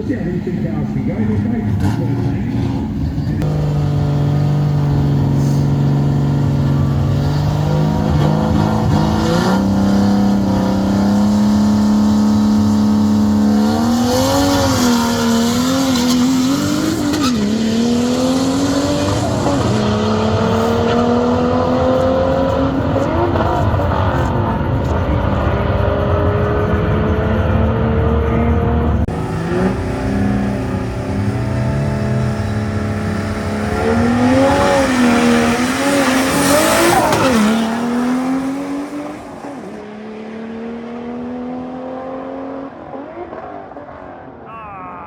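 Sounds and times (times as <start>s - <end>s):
car engine running: 0.0s - 17.1s, 18.4s - 39.8s.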